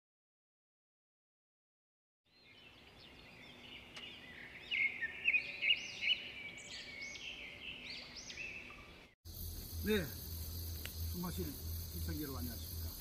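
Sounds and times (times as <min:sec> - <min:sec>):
high drone of insects: 0:02.4 - 0:13.0.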